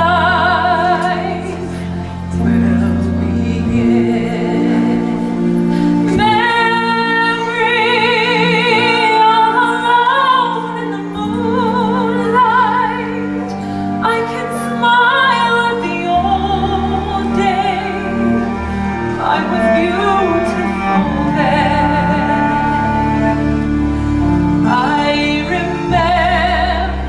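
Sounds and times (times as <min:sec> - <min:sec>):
woman singing ballad: 0:00.0 - 0:23.4, 0:24.6 - 0:27.0
orchestral chords: 0:00.0 - 0:27.0.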